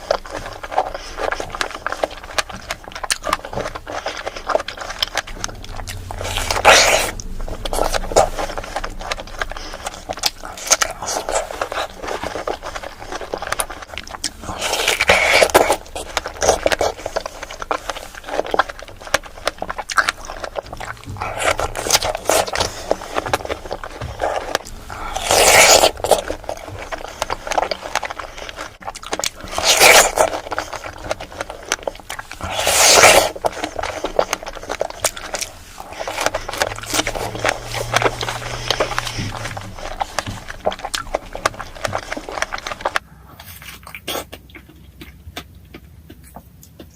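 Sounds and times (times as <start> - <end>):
wet chewing and mouth smacks: 0.0 - 46.9.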